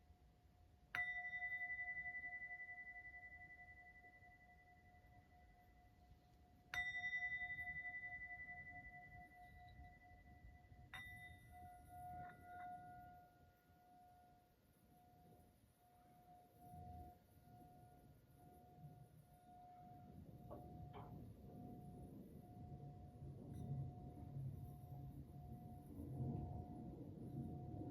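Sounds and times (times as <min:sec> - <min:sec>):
singing bowl ringing: 0:00.9 - 0:27.7.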